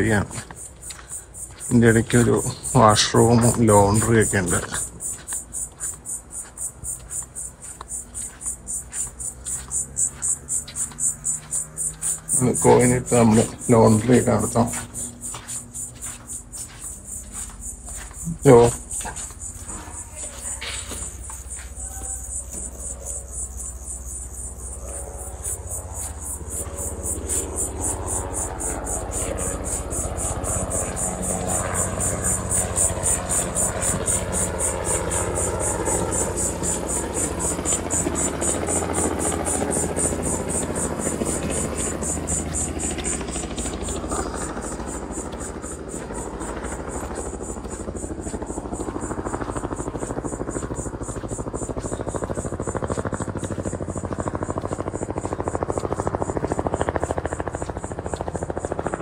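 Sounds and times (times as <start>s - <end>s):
insects chirping chorus: 0.0s - 59.0s.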